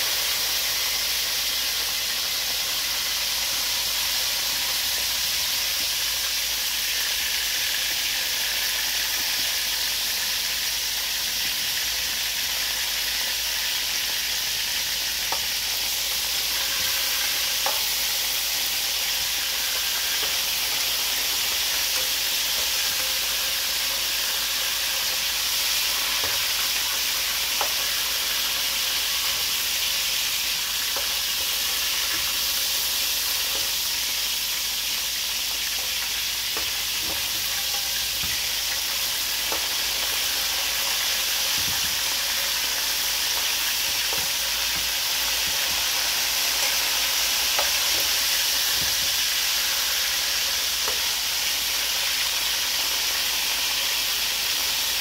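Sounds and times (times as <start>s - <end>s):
frying in hot oil sizzling: 0.0s - 55.0s.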